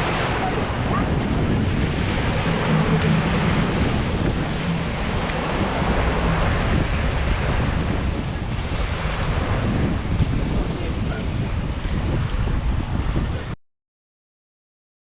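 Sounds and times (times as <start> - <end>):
low engine hum: 0.0 - 13.6
rushing sea water: 0.0 - 13.6
wind buffeting microphone: 0.0 - 13.6.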